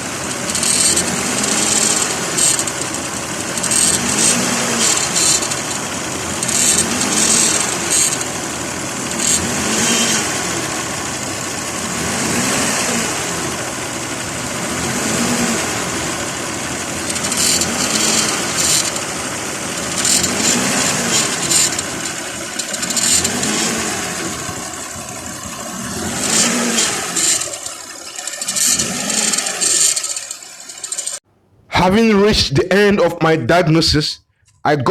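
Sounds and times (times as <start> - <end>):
engine rising and falling: 0.0 - 31.2.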